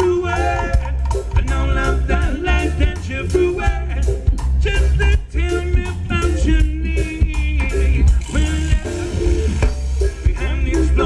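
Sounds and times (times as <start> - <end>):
live ska band: 0.0 - 11.0
person singing: 0.0 - 11.0.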